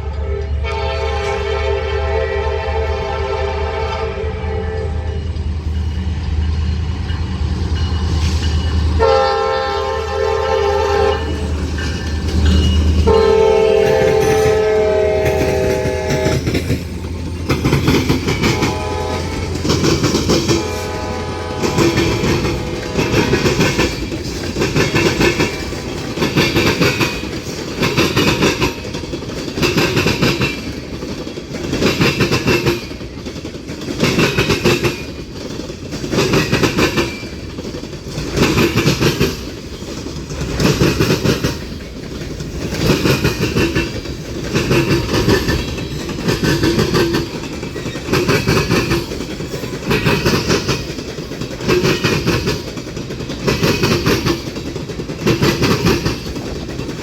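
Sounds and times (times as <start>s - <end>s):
train wheels clacking on rails: 0.0s - 57.0s.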